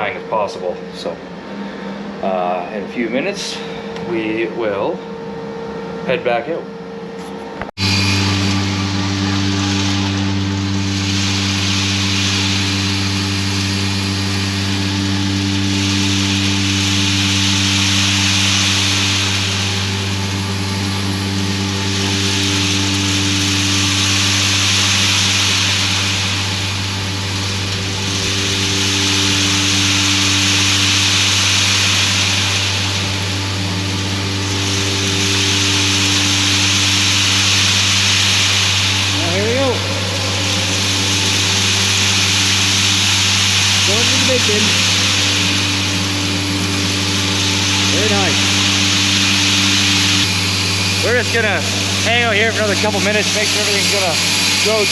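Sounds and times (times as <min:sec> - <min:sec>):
grain dryer low hum: 0:00.0 - 0:05.1, 0:05.8 - 0:54.9
rushing hiss of burner: 0:07.8 - 0:54.9.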